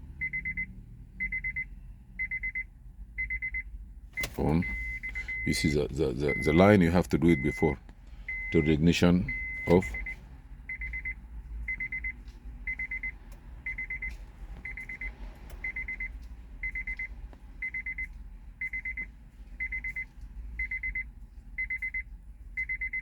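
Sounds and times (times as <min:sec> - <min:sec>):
electronic warning beeps: 0:00.2 - 0:23.0.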